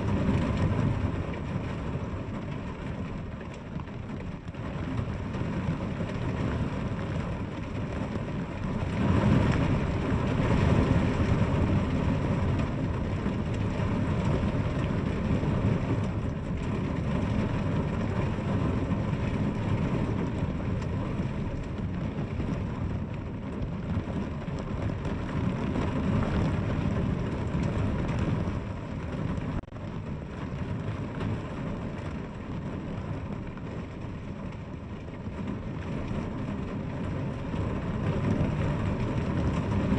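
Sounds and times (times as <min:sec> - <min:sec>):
deep low rumble: 0:00.0 - 0:39.9
steady rainfall: 0:00.0 - 0:39.9.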